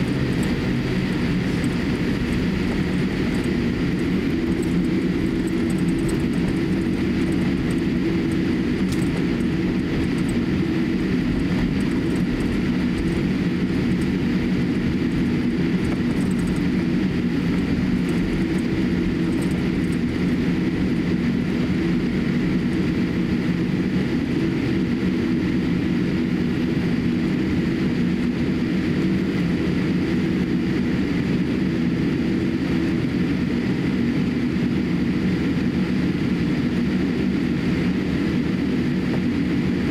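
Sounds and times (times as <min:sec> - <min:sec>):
airliner cabin hum: 0:00.0 - 0:39.9.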